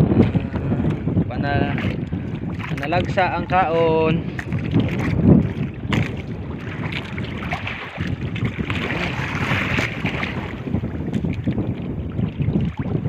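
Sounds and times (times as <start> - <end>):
water sloshing against boat: 0.0 - 13.0
wind buffeting microphone: 0.0 - 13.0.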